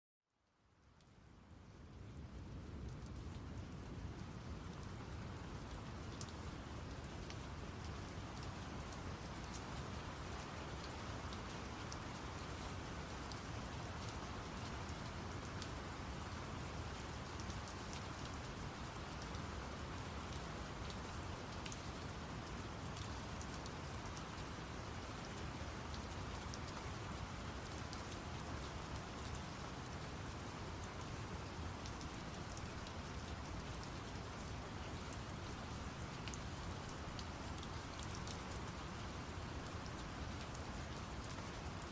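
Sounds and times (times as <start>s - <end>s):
rain with deep rushing hiss: 0.5s - 41.9s
rain drop ticks: 0.8s - 1.2s, 2.8s - 15.9s, 17.0s - 41.8s.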